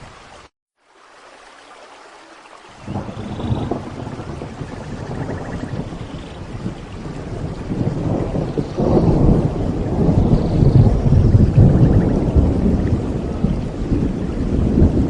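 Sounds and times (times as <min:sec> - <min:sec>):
heavy rain: 0:02.4 - 0:15.0
rolling thunder: 0:02.8 - 0:15.0.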